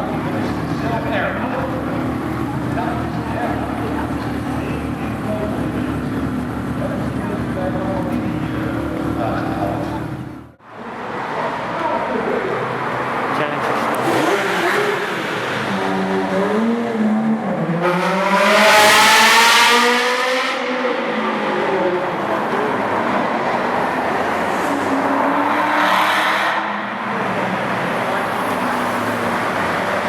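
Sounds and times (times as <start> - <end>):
sports car engine accelerating: 0.0 - 11.7, 12.4 - 30.0.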